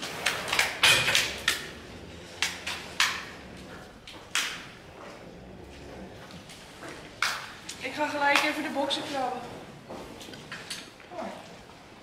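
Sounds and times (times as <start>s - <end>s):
hooves knocking on concrete: 0.0s - 10.8s
hooves clanking on metal dividers: 0.0s - 11.0s.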